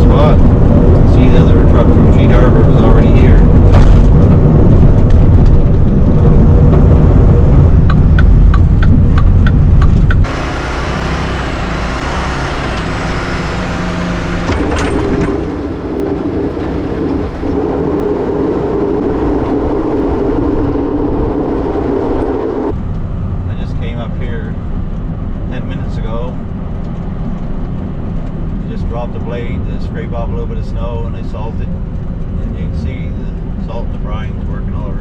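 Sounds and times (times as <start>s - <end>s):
diesel truck engine rumbling: 0.0s - 35.0s.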